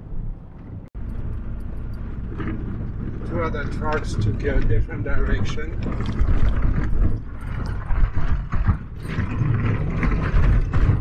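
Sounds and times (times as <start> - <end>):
truck engine and tyres rumbling: 0.0 - 11.0
truck rattling and knocking: 1.0 - 11.0.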